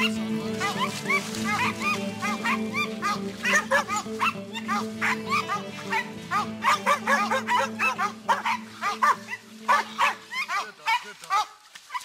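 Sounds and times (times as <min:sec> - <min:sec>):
background music: 0:00.0 - 0:10.8
dogs barking rapidly: 0:00.0 - 0:12.0.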